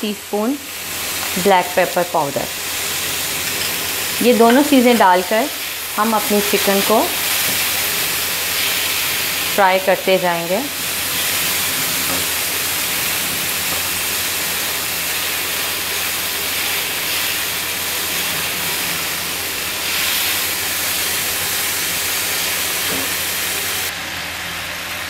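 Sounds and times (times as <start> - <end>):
chicken sizzling in oil: 0.4 - 25.0.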